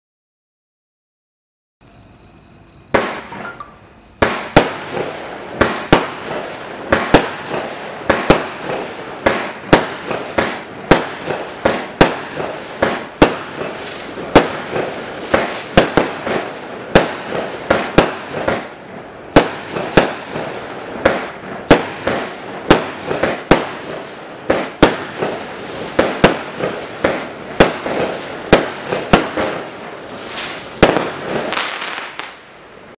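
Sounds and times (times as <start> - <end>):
steady fireworks hiss: 1.8 - 32.9
fireworks cake firing shots: 2.9 - 3.6, 4.2 - 32.4.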